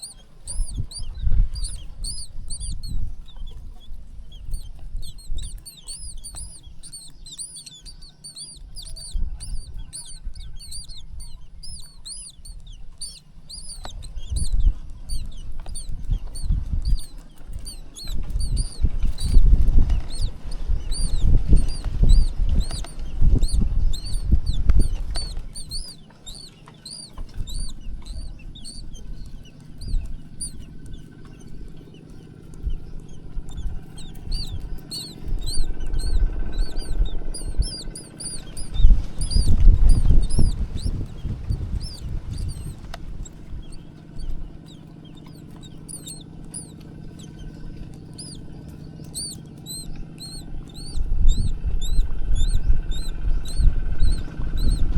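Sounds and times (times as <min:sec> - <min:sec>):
nestlings cheeping: 0:00.0 - 0:54.9.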